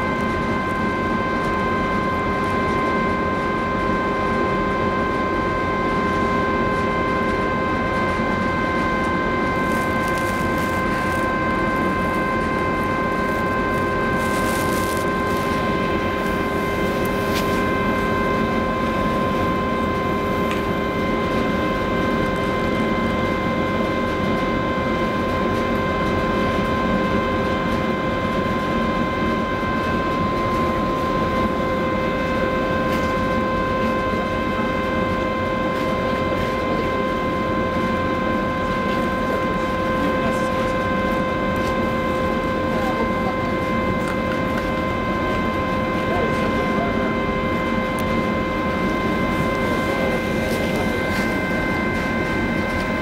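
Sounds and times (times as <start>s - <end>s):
steady whining tones: 0.0s - 25.3s, 26.0s - 53.0s.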